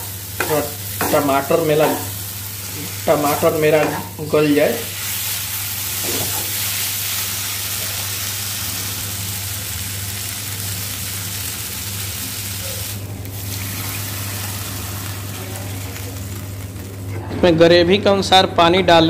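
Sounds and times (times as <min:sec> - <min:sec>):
food sizzling in a frying pan: 0:00.0 - 0:17.2.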